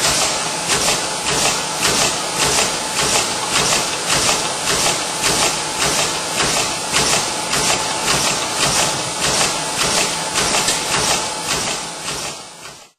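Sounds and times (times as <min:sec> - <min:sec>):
machine clattering: 0:00.0 - 0:12.9.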